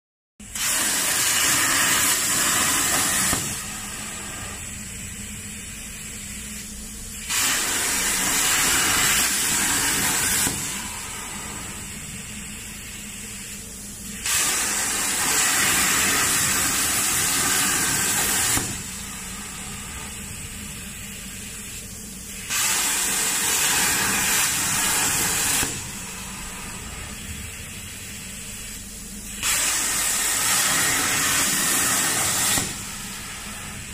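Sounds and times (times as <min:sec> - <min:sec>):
plasma torch arc hissing: 0:00.4 - 0:33.9
soft steady air hiss: 0:00.8 - 0:33.9.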